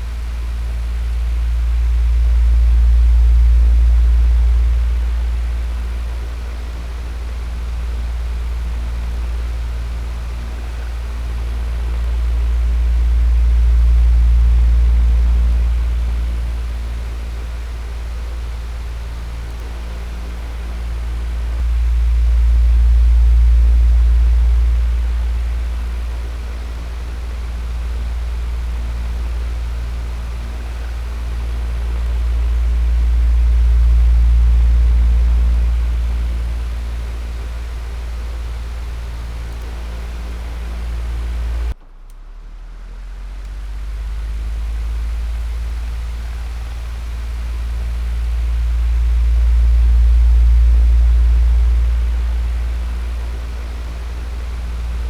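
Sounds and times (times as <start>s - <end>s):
electric fan running: 0.0s - 42.2s, 42.8s - 55.0s.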